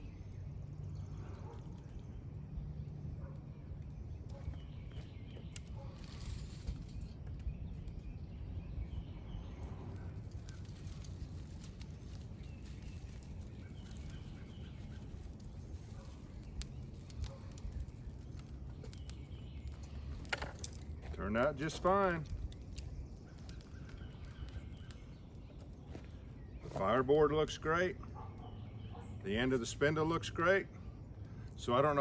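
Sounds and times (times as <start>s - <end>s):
birds chirping: 0.0s - 32.0s
low outdoor rumble: 0.0s - 32.0s.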